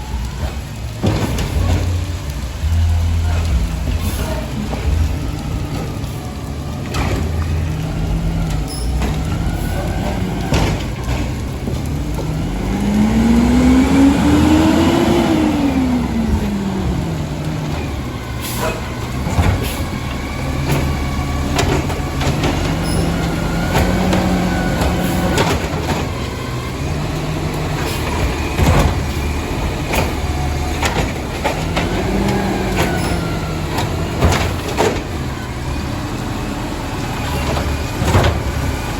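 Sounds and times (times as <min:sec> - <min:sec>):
garbage truck engine revving: 0:00.0 - 0:38.9
trash carts banging on hopper: 0:00.0 - 0:38.9.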